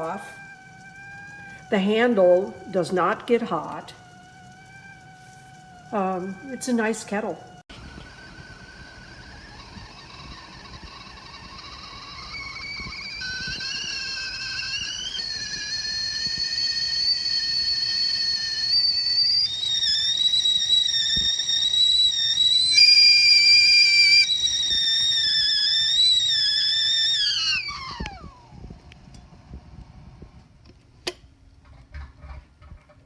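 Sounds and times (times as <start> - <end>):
kettle whistling: 0.0 - 30.4.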